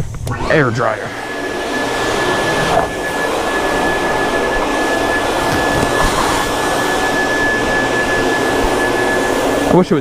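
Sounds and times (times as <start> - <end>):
air-dryer blower running: 0.0 - 10.0.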